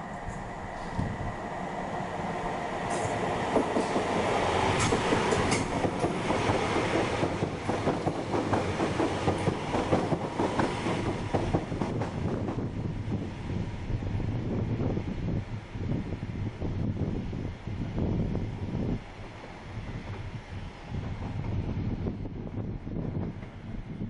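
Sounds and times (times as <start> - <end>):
passenger train running past: 0.0 - 24.0.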